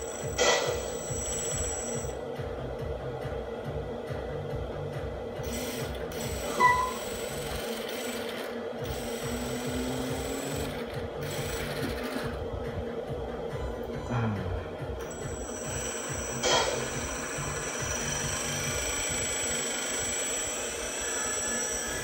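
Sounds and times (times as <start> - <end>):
electric pump motor whirring: 0.0 - 14.0, 14.8 - 22.0.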